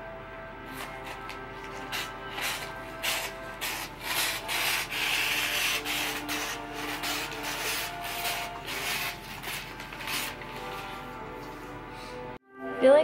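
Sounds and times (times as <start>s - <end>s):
wrapping paper rustling: 0.7s - 11.7s.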